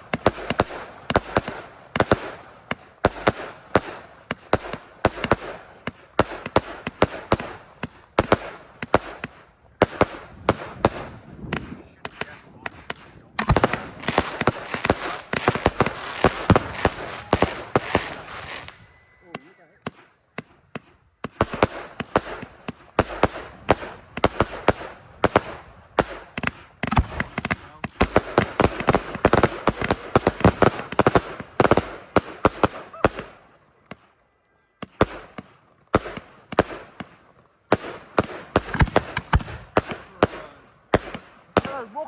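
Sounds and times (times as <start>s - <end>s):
fireworks bangs and crackling: 0.0s - 34.2s, 34.8s - 42.0s.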